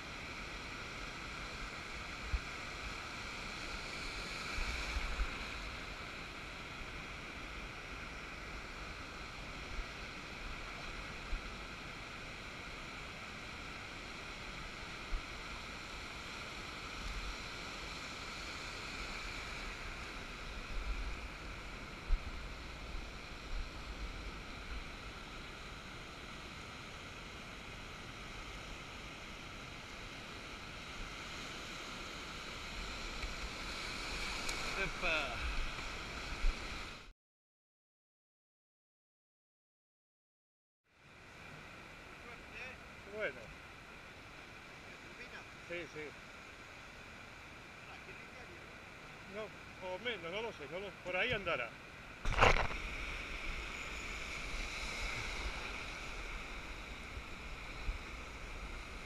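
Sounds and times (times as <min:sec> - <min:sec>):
surf washing: 0:00.0 - 0:37.1, 0:41.0 - 0:59.0.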